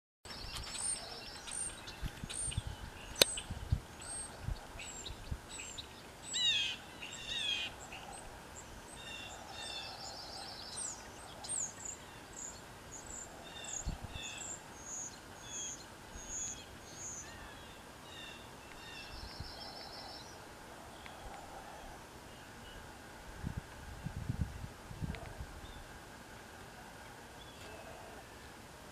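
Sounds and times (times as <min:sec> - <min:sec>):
songbirds chirping: 0:00.3 - 0:28.9.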